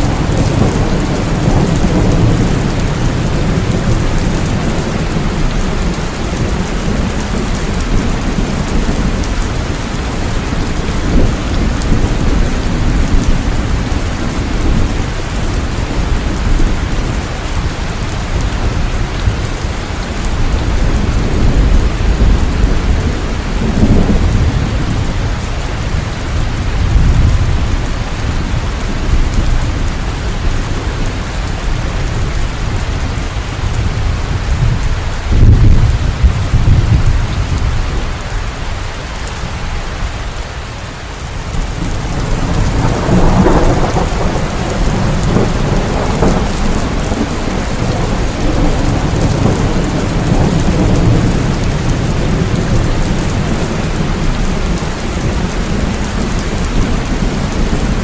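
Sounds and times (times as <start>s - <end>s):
thunder rolling: 0.0s - 38.2s, 41.6s - 58.0s
heavy rain: 0.0s - 58.0s.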